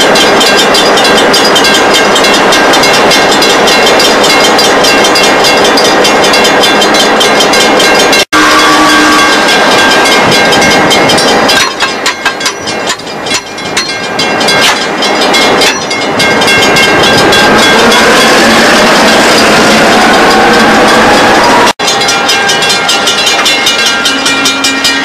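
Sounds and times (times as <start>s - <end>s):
freight train wagons rumbling: 0.0s - 25.0s.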